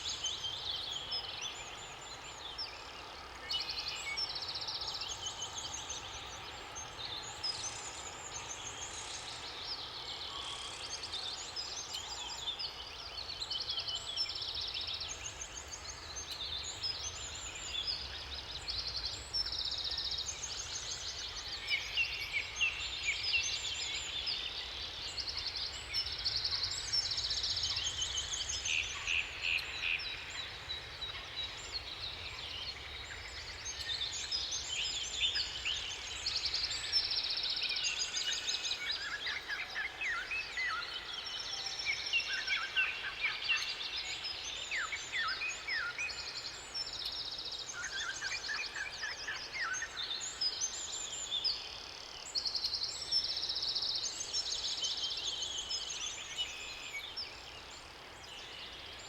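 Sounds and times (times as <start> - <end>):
low steady background noise: 0.0 - 59.0
songbirds singing: 0.0 - 59.0.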